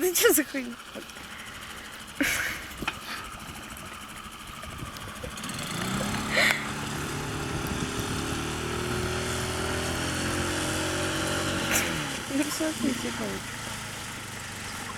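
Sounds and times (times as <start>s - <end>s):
outboard motor running: 0.0s - 14.9s.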